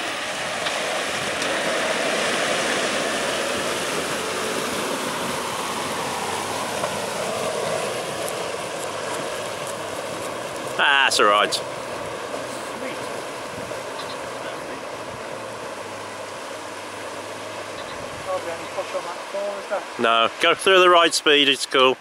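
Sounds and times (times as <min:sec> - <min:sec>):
vehicle engine running: 0:00.0 - 0:19.0
water churning: 0:00.0 - 0:22.0.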